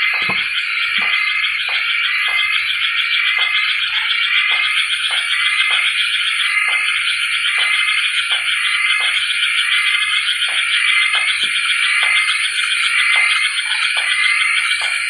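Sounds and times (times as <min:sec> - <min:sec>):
chorus of pulsing animal calls: 0:00.0 - 0:15.0.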